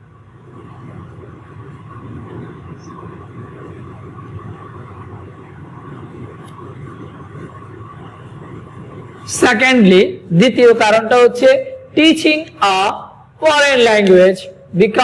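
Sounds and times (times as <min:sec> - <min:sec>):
faint high hum: 0:00.0 - 0:15.0
low background rumble: 0:00.0 - 0:15.0.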